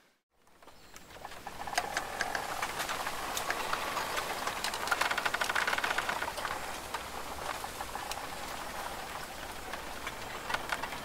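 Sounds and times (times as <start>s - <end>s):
rain falling: 1.3s - 11.0s.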